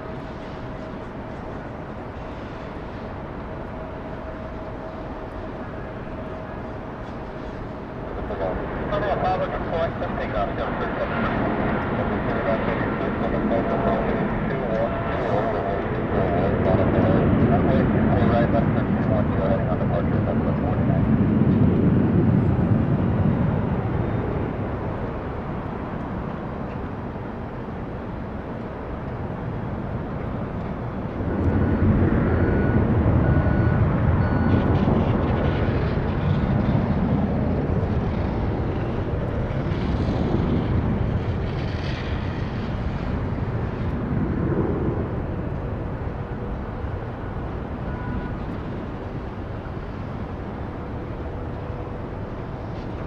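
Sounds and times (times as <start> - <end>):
jet engine rumble: 0.0 - 53.0.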